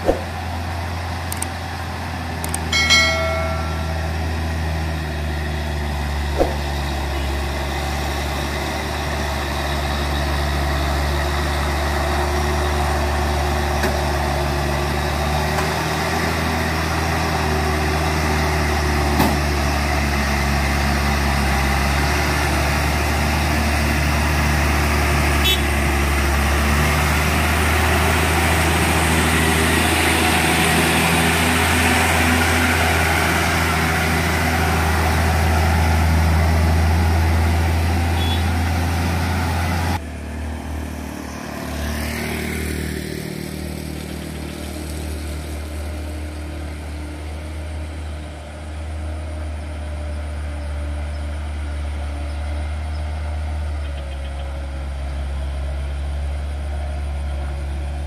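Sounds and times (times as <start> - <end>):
truck diesel engine under load: 0.0 - 58.0.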